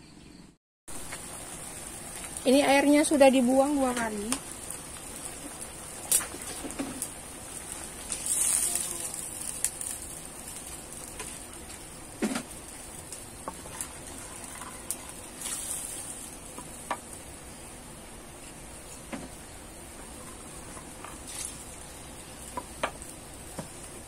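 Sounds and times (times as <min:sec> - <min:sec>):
chicken sizzling in a pan: 0:00.9 - 0:24.0.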